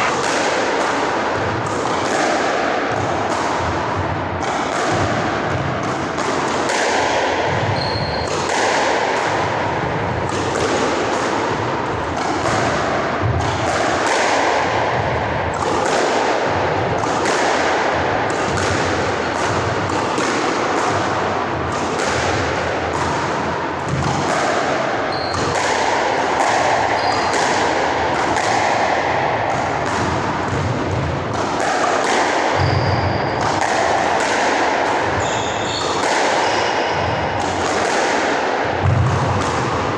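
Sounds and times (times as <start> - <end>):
ball hitting court wall: 0.0 - 39.9
racket hitting squash ball: 0.0 - 39.9.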